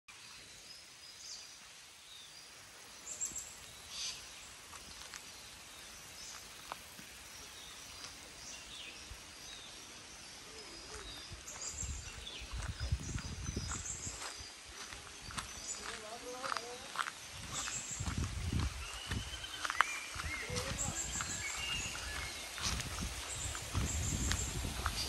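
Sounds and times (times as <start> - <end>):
forest birds chirping: 0.1 - 25.0.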